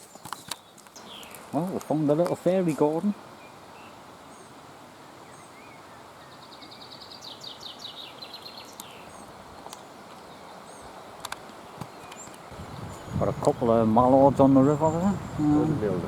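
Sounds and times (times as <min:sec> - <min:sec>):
songbird singing: 0:00.0 - 0:16.0
steady outdoor hiss: 0:00.0 - 0:16.0.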